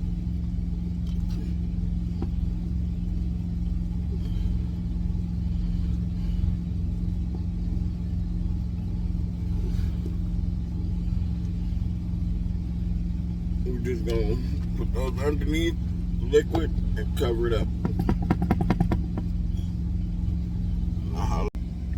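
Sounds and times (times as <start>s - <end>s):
truck engine idling: 0.0s - 21.9s.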